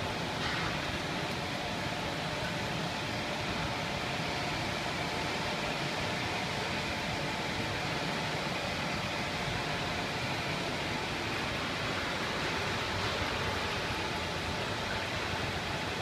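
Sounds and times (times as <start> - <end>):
dryer oven fans rushing: 0.0 - 16.0.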